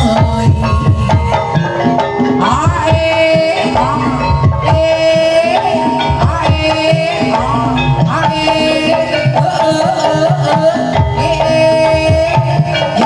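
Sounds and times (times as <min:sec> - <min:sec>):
hand drums beating: 0:00.0 - 0:13.0
wavering melody line: 0:00.0 - 0:13.0.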